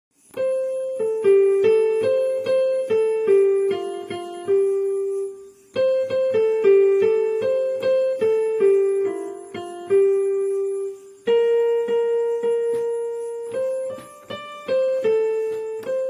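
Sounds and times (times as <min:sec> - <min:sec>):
electric piano ringtone melody: 0:00.2 - 0:16.0.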